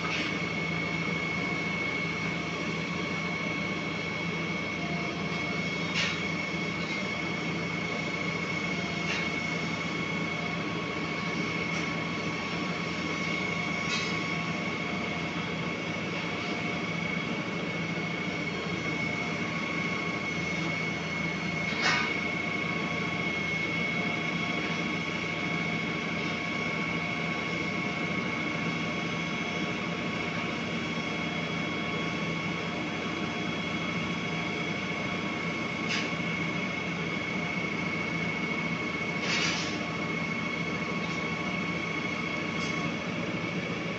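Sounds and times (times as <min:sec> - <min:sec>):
concrete pump mechanical drone: 0:00.0 - 0:43.9.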